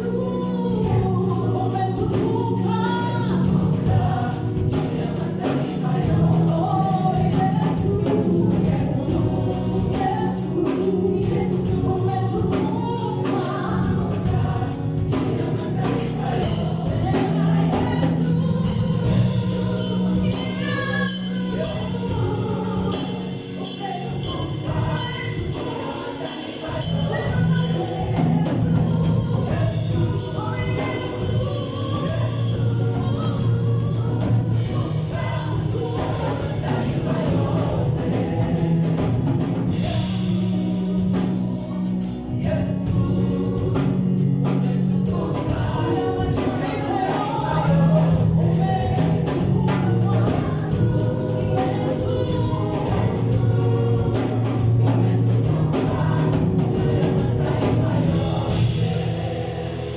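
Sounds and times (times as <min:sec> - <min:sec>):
choir singing gospel with band: 0:00.0 - 0:59.9.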